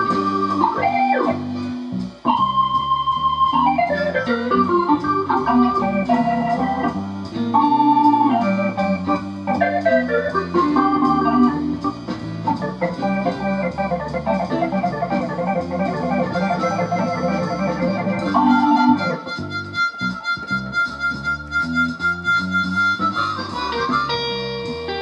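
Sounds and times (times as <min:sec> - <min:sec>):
instrumental keyboard music: 0:00.0 - 0:25.0.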